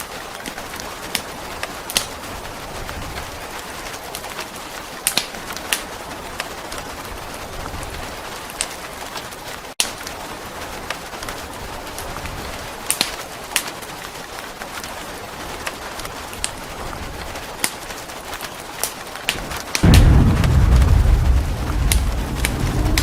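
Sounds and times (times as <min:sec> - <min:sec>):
steady rain hiss: 0:00.0 - 0:23.0
fireplace crackling and popping: 0:00.1 - 0:23.0.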